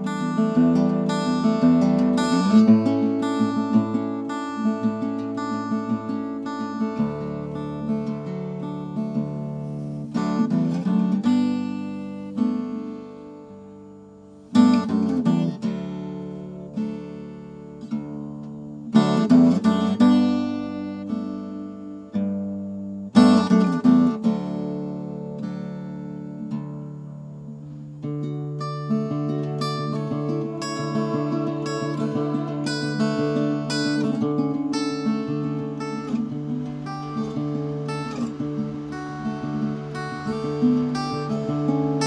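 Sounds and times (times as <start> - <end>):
acoustic guitar: 0.0 - 42.0.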